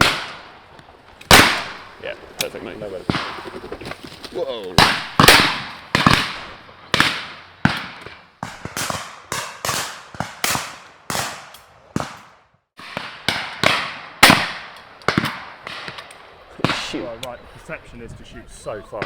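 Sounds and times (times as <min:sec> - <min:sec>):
shotguns firing with echo: 0:00.0 - 0:03.9, 0:04.7 - 0:17.4.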